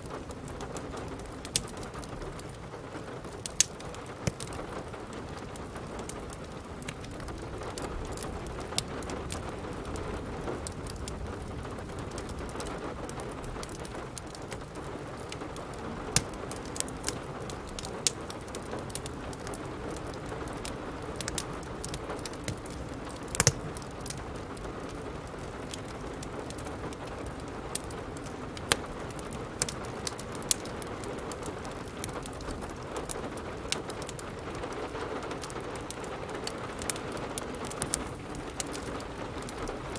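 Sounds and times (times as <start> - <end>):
steady rain: 0.0 - 39.9
wood fire crackling and popping: 0.0 - 39.9.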